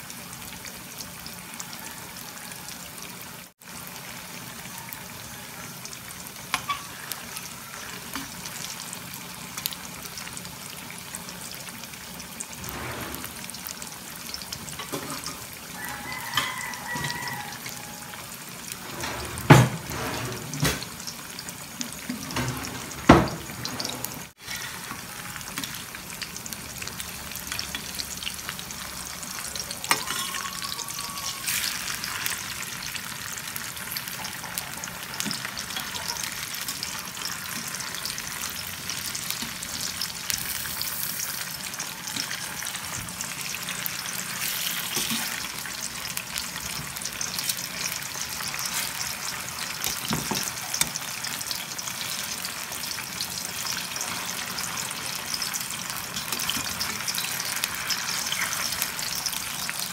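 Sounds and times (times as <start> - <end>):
tofu sizzling in hot oil: 0.0 - 59.9.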